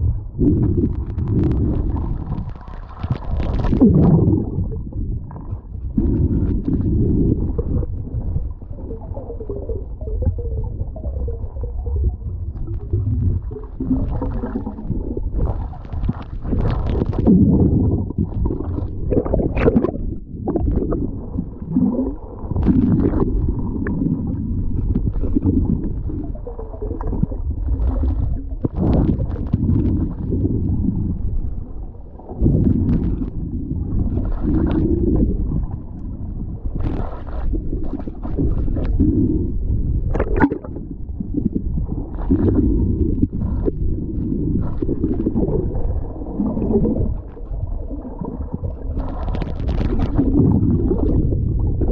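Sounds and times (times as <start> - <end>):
underwater water gurgle: 0.0 - 51.9.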